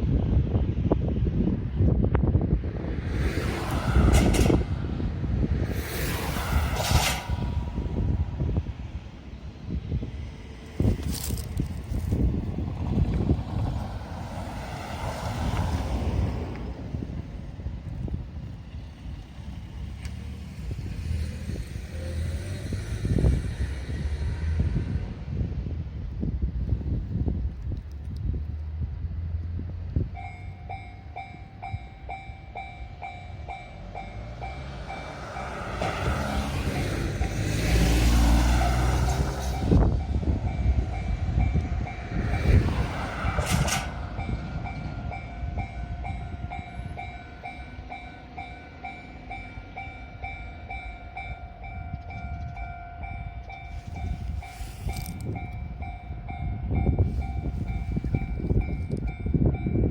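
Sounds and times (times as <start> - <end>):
electric train rumbling past: 0.0 - 59.9.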